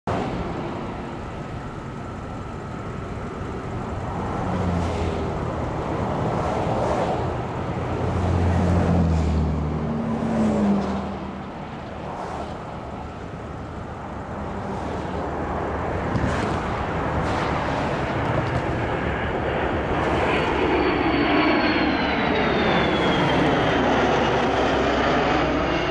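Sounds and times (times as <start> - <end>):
jet aircraft passing overhead: 0.1 - 25.9.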